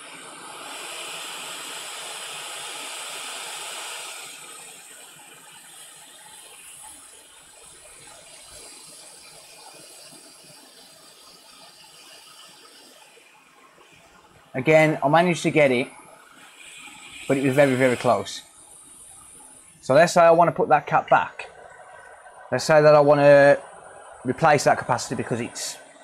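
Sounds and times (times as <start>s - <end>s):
hot air station hissing: 0.0s - 26.0s.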